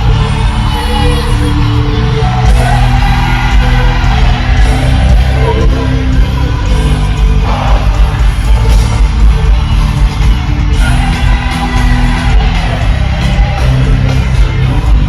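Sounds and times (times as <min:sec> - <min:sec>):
band with strong bass: 0:00.0 - 0:15.0.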